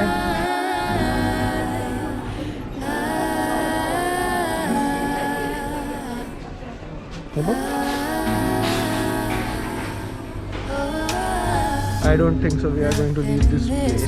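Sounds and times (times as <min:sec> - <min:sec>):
person singing long gliding notes: 0:00.0 - 0:06.7, 0:07.4 - 0:14.0
slow love song: 0:00.0 - 0:14.0.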